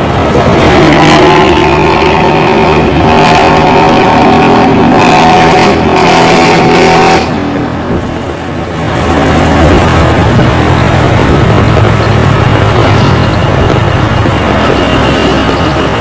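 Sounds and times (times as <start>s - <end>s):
bus engine growling: 0.0s - 16.0s.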